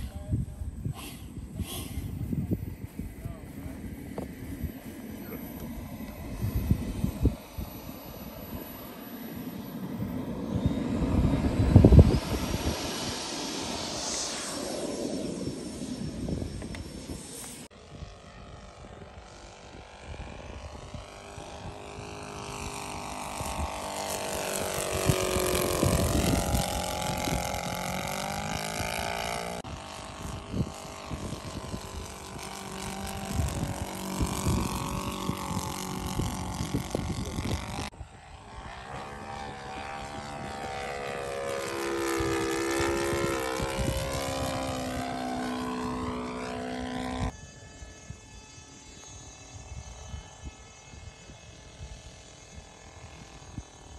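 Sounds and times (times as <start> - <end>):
model plane motor droning: 0.0 - 53.9.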